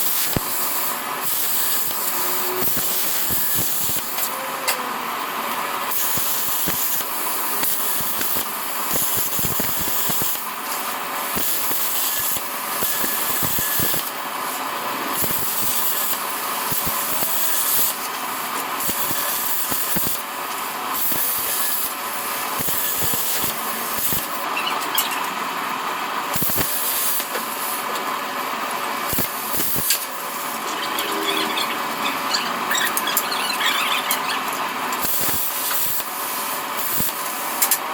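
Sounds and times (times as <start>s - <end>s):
plasma cutter hissing and crackling: 0.0s - 4.4s, 5.9s - 14.2s, 15.1s - 20.3s, 21.0s - 24.5s, 26.3s - 27.8s, 29.1s - 34.4s, 35.0s - 37.8s.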